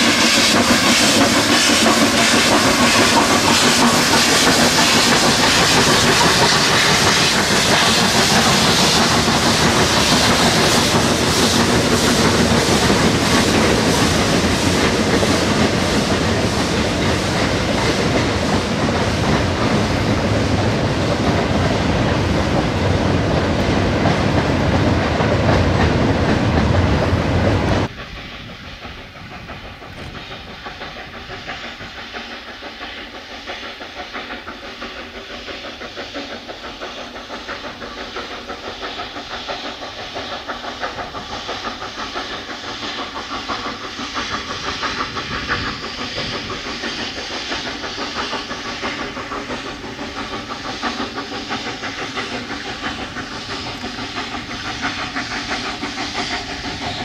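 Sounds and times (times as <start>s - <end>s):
steam locomotive exhaust beating: 0.0s - 57.0s.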